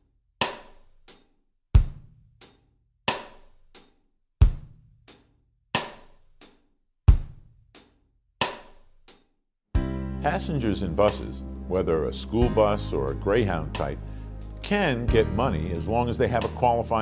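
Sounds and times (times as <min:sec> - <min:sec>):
slow sparse drum beat: 0:00.4 - 0:09.2, 0:11.1 - 0:17.0.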